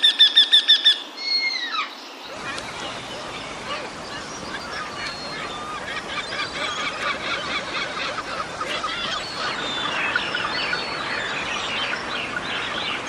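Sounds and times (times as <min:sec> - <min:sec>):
background hiss: 0:00.0 - 0:13.0
chorus of birds calling: 0:00.0 - 0:13.0.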